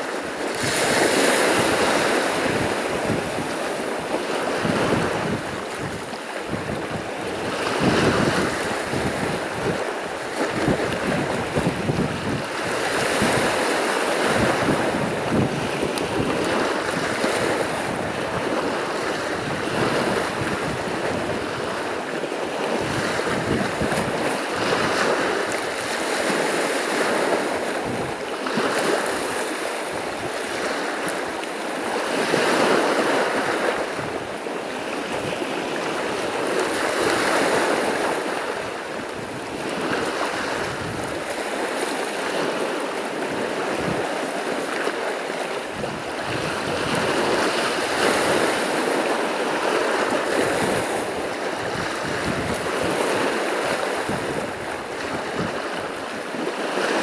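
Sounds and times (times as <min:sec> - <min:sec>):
sea waves washing onto shore: 0:00.0 - 0:57.0.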